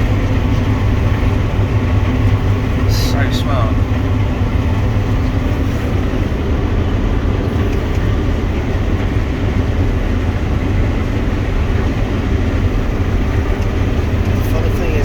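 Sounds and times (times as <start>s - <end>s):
low engine drone: 0.0s - 15.0s
threshing machinery noise: 0.0s - 15.0s.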